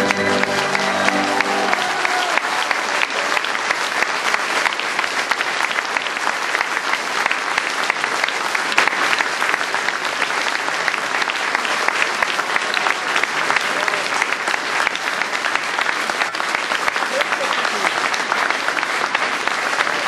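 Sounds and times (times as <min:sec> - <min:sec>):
audience applause: 0:00.0 - 0:20.0.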